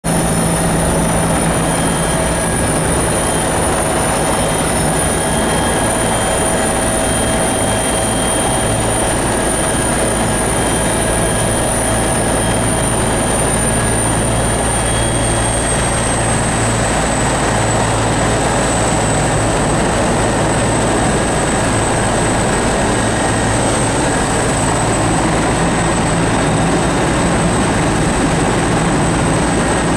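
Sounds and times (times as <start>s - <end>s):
helicopter turbine and rotor: 0.0s - 29.9s.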